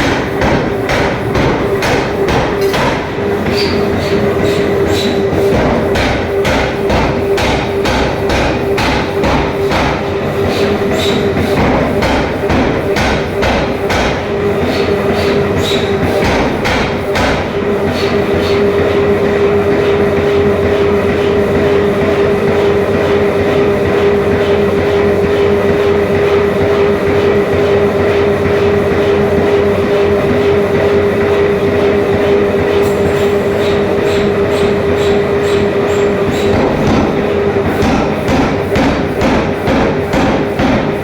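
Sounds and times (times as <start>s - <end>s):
machinery droning: 0.0s - 41.0s.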